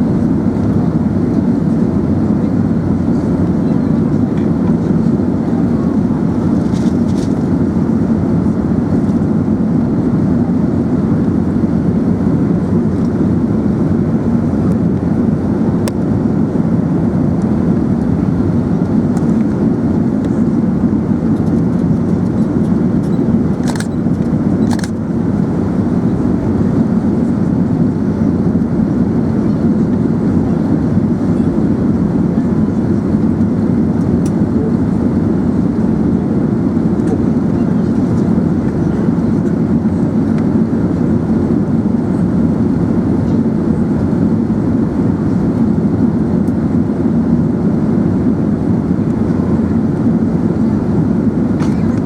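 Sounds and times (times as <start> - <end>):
airplane cabin rumble: 0.0 - 52.0.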